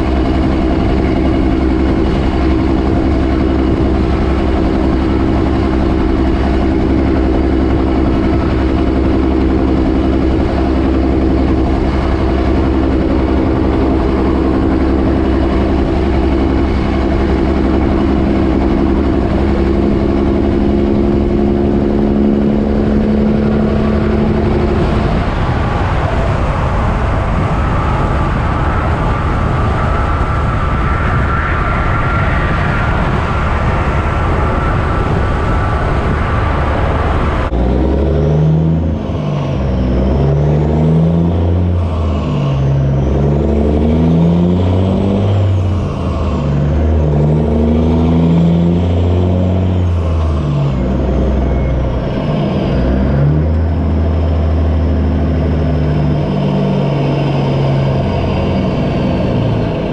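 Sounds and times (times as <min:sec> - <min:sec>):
high whine: 0:00.0 - 0:59.9
truck diesel engine drone: 0:00.0 - 0:59.9
wind noise: 0:00.0 - 0:59.9.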